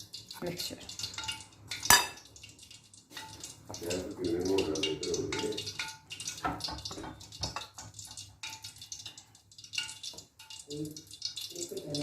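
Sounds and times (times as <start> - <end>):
dripping: 0.0 - 12.0.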